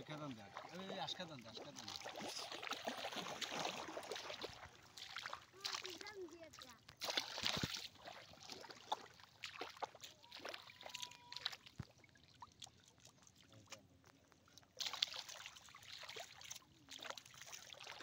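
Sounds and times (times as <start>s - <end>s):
muddy water sloshing: 0.0s - 18.0s
wading splashes: 0.0s - 18.0s.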